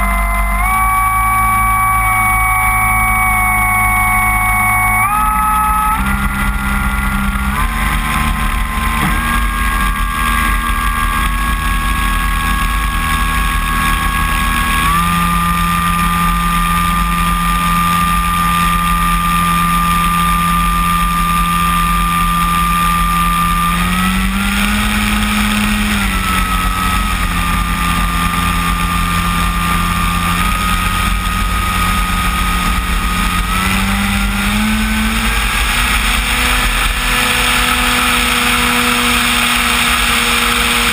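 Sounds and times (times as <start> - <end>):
model plane electric motor whine: 0.0 - 40.9.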